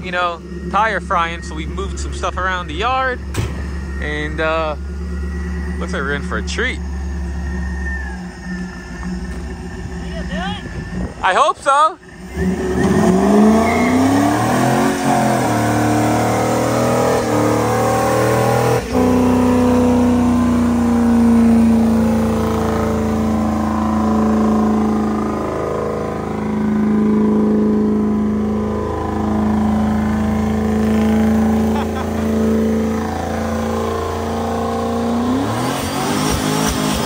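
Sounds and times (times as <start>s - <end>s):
pickup engine revving: 0.0s - 37.0s
tires spinning: 0.0s - 37.0s.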